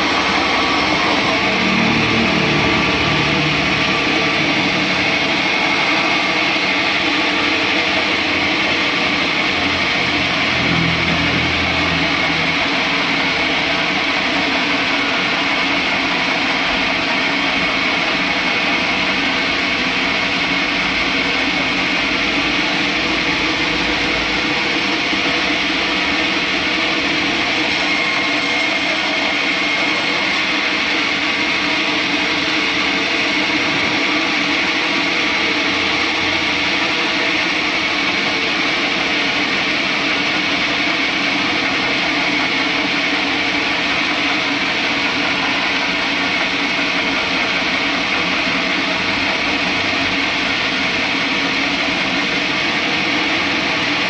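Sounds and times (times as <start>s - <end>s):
sawmill saw machinery drone: 0.0s - 54.0s.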